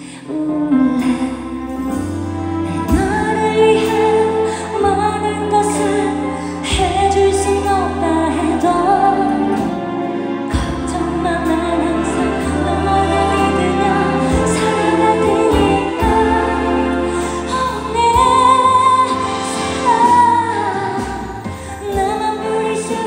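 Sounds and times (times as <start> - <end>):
woman singing into microphone: 0.0 - 23.0
band accompaniment: 0.3 - 23.0.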